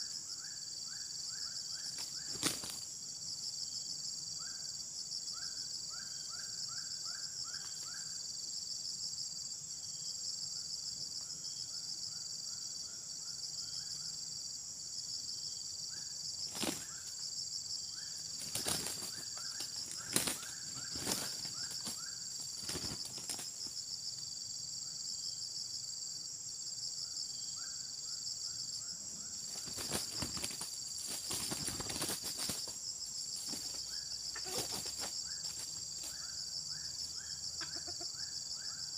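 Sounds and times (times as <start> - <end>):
pulsing insect chorus: 0.0 - 38.9.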